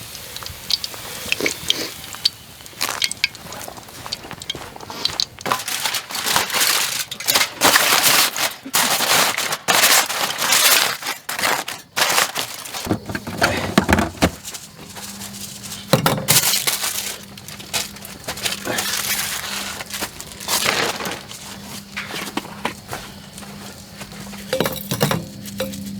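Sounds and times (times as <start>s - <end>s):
crumpling crinkly rustle: 1.4s - 24.5s.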